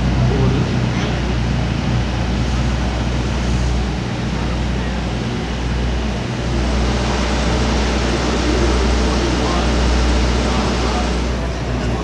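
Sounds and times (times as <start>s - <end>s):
low mechanical rumble and hum: 0.0s - 12.0s.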